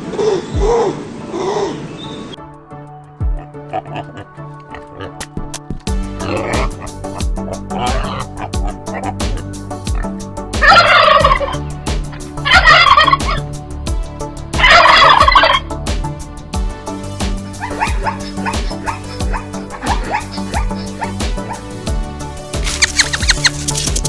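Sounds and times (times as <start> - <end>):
background music with beat: 0.4 - 1.0, 2.3 - 24.0.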